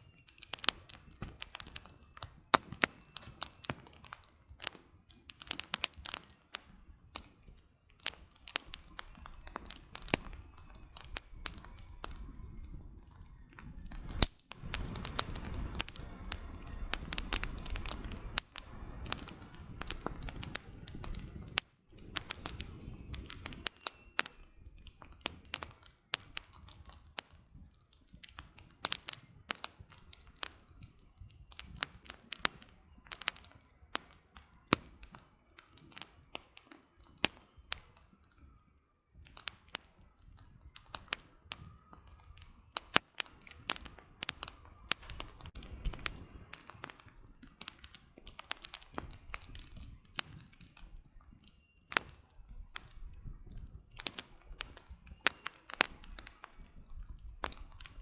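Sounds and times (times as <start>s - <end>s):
campfire crackling and popping: 0.0s - 58.0s
low rustle of flame: 0.0s - 58.0s.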